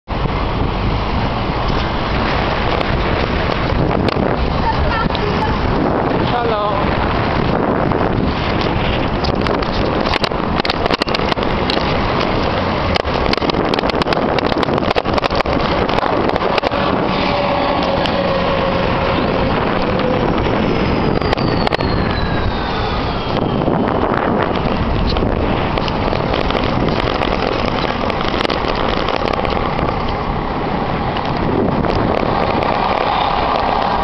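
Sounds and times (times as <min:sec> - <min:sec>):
wind and road noise: 0:00.0 - 0:34.0.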